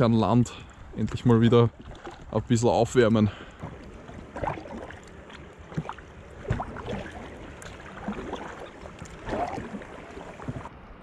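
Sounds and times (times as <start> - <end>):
river water splashing: 0.6 - 10.9
paddle splashes: 0.9 - 10.8.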